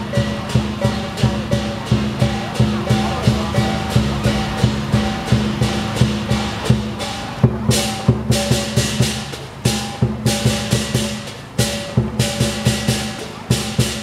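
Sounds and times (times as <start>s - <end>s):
big drum beating: 0.0s - 14.0s
cymbals clashing: 0.0s - 14.0s.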